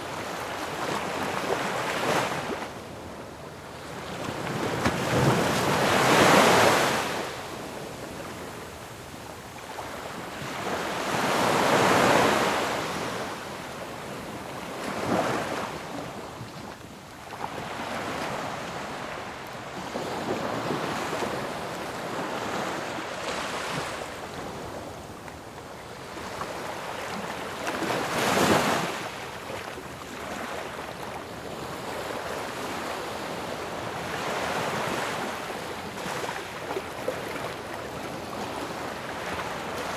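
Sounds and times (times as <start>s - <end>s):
ocean waves crashing on shore: 0.0s - 16.4s, 17.0s - 39.9s.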